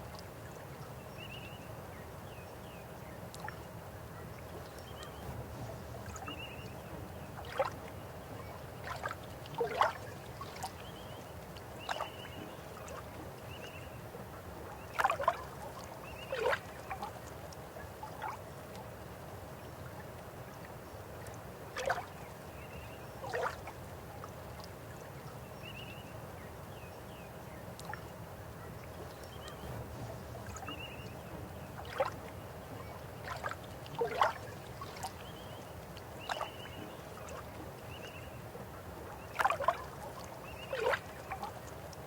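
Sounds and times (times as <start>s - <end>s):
river water flowing: 1.7s - 25.5s, 27.4s - 42.0s.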